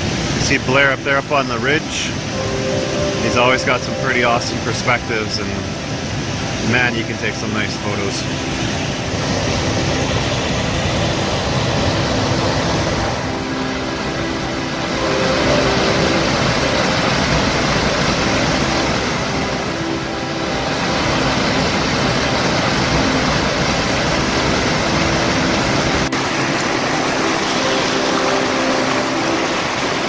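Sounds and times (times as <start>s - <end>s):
waterfall and river rushing: 0.0s - 30.0s.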